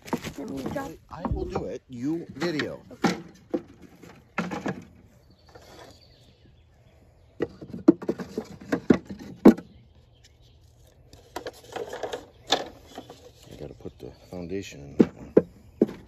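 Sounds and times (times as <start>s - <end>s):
wooden hive frames clacking: 0.0s - 6.3s, 7.3s - 16.0s.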